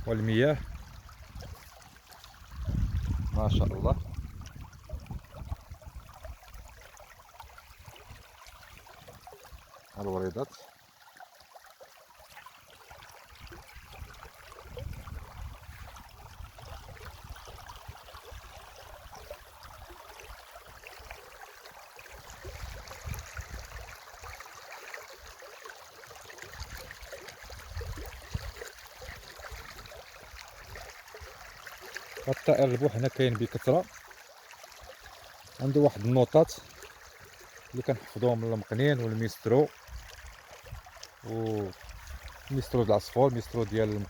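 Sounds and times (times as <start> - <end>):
stream water running: 0.0 - 44.0.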